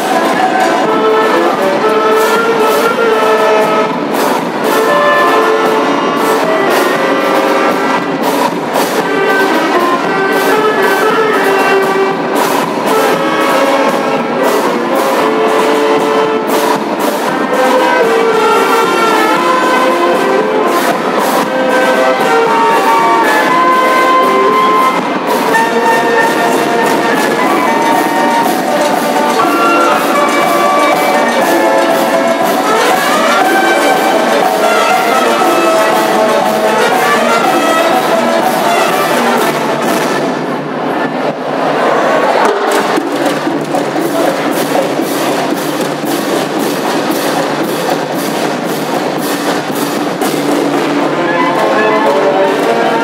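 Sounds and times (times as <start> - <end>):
drum and cymbal strikes: 0.0 - 40.7, 42.5 - 53.0
brass and saxophones melody: 0.0 - 41.2, 42.2 - 53.0.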